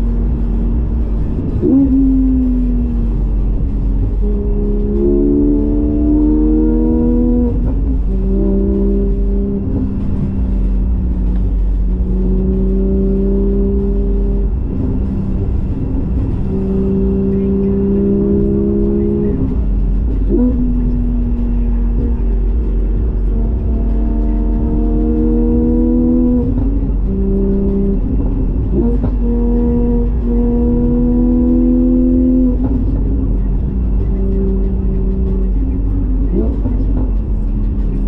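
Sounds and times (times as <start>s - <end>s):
car engine accelerating through gears: 0.0s - 38.0s.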